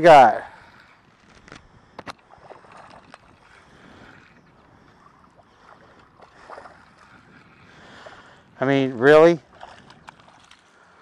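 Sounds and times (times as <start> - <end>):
soft water noise: 0.0 - 11.0.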